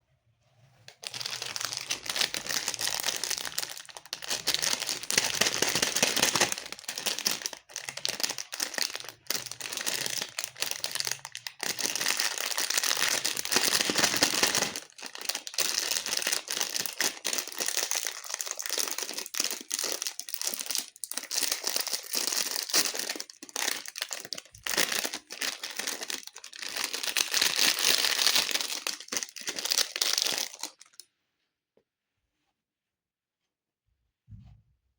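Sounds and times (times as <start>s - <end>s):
plastic wrappers crinkling and tearing: 0.9s - 31.0s.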